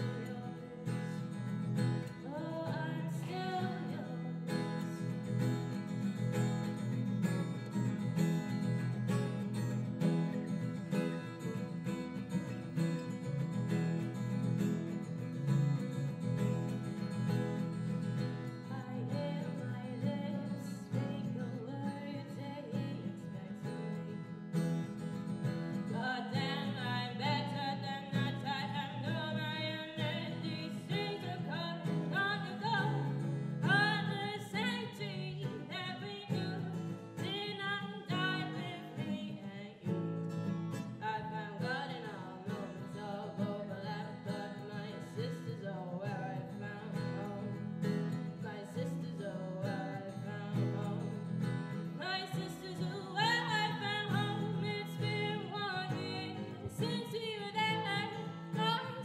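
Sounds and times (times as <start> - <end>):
acoustic guitar: 0.0 - 59.0
woman singing: 0.0 - 59.0.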